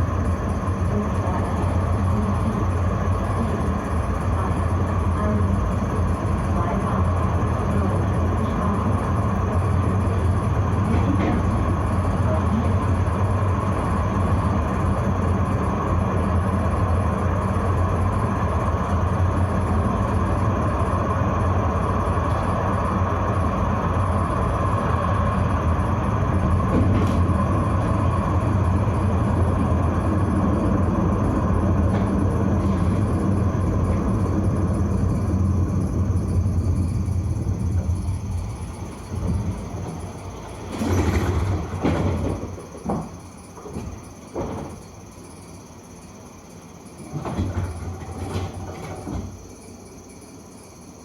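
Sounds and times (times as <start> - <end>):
low hum: 0.0 - 40.8
tram rumbling on rails: 0.0 - 51.0.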